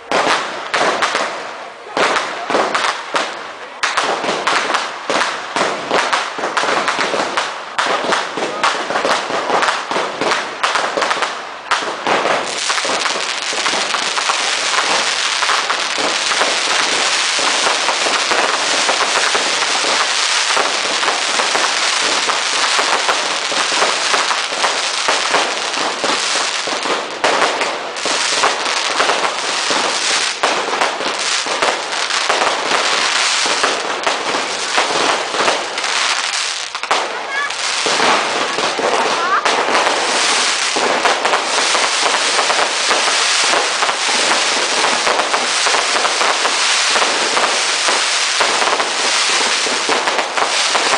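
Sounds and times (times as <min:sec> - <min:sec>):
fireworks crackling barrage: 0:00.0 - 0:50.9.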